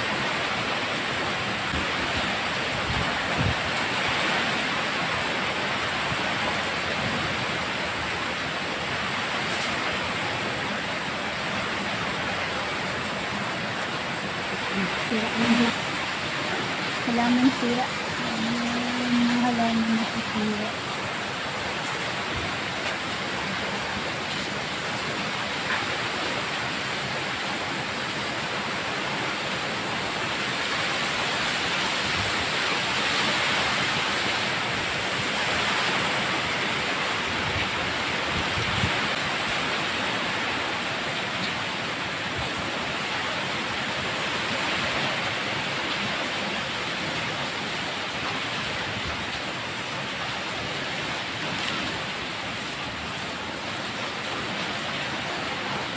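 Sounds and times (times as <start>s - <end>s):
gusting wind: 0.0s - 55.9s
heavy rain pouring: 0.0s - 55.9s.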